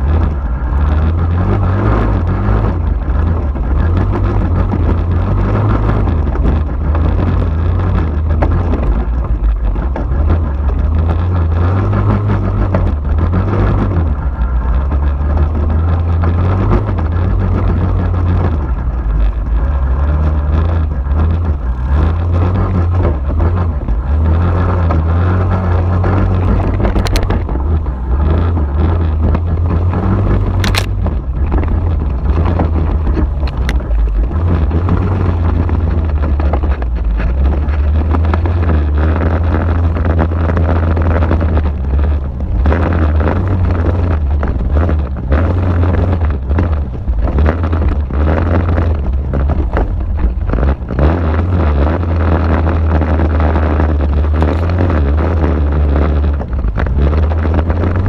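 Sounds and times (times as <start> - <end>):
quad bike engine rumbling: 0.0 - 58.0
wind noise: 0.0 - 58.0.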